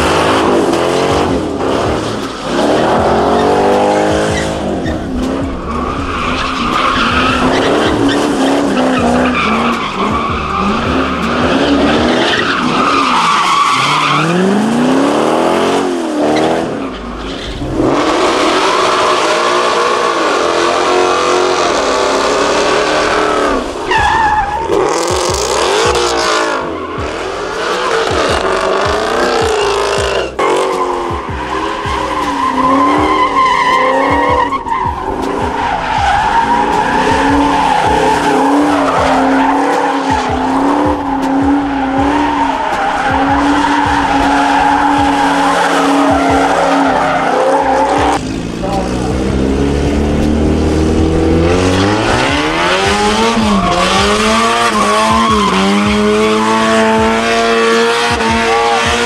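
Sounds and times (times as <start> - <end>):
car engine revving: 0.0 - 59.0
tyres squealing on pavement: 2.0 - 14.8, 16.4 - 49.1, 51.1 - 59.0.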